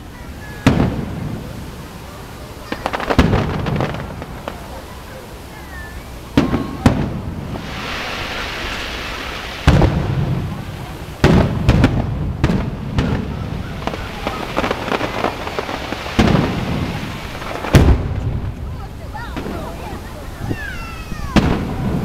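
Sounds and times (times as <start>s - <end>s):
firework crackle and hiss: 0.0s - 22.0s
firework shells booming: 0.4s - 1.9s, 2.6s - 5.6s, 6.3s - 20.2s, 21.2s - 22.0s.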